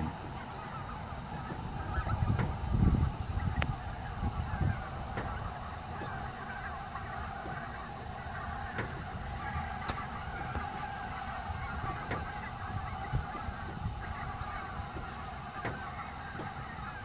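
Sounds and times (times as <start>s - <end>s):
geese honking: 0.0s - 17.0s
low microphone rumble: 0.0s - 17.0s.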